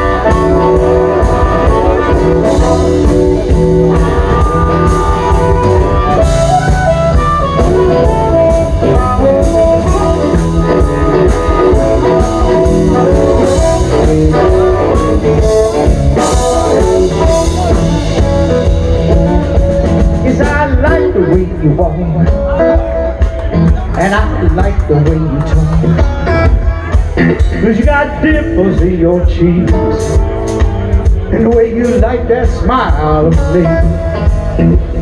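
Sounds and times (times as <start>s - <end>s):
bass guitar: 0.0s - 35.0s
drum kit: 0.0s - 35.0s
lead line with bending notes: 0.0s - 35.0s.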